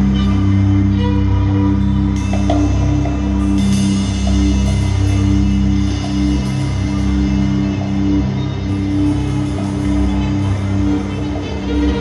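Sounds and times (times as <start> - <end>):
ambient electronic music: 0.0 - 12.0.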